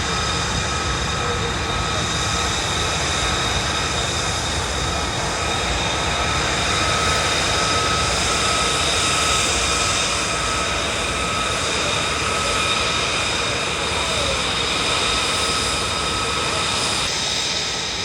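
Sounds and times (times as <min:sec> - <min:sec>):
jet engine roar with turbine whine: 0:00.0 - 0:18.0.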